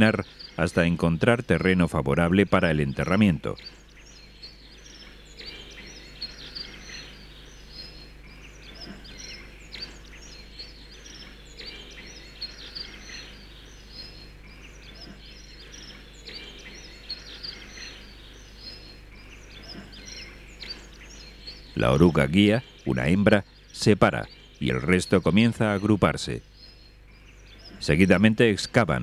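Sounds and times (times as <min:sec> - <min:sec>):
faint low hum: 0:00.0 - 0:29.0
small birds chirping: 0:00.0 - 0:29.0.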